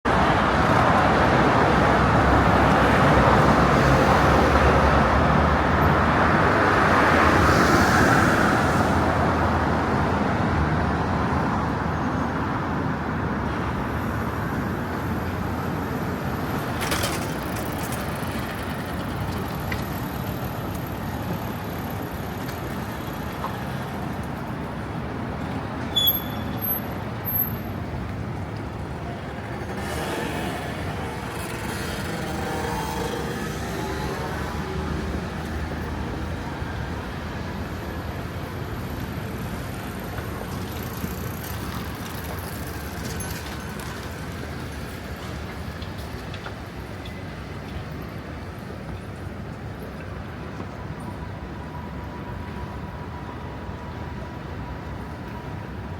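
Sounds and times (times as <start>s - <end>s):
road traffic passing: 0.0s - 55.9s.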